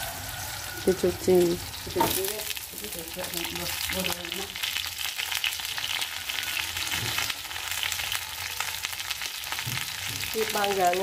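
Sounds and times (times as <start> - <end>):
hot oil sizzling in a wok: 0.0 - 11.0.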